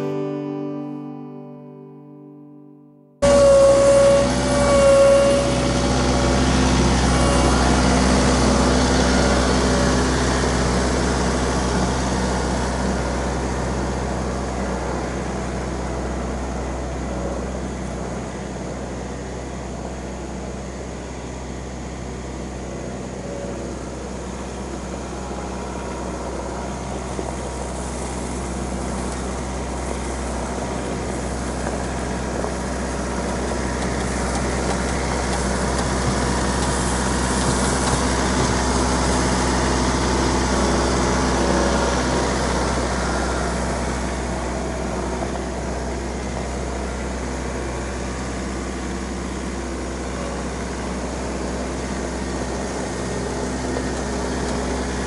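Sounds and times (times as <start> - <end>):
tractor diesel engine running: 3.2 - 55.0.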